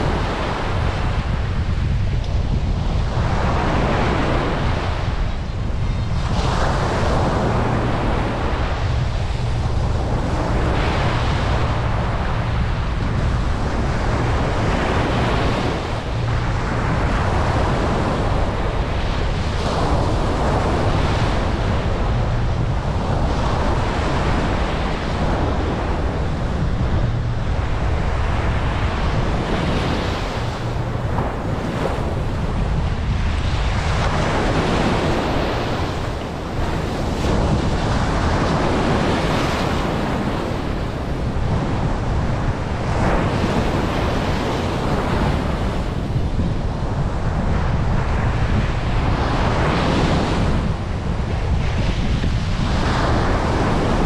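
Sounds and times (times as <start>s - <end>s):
wind rumble on microphone: 0.0s - 54.0s
ocean surf breaking: 2.7s - 54.0s.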